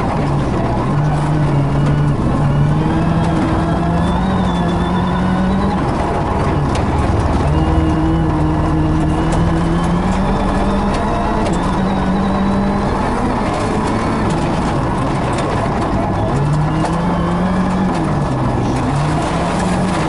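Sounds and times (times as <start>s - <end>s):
rally car engine revving hard: 0.0s - 20.0s.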